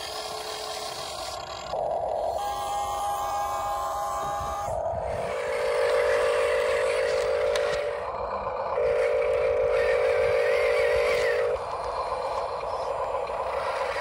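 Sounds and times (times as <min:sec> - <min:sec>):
small electric gear motor whining: 0:00.0 - 0:14.0.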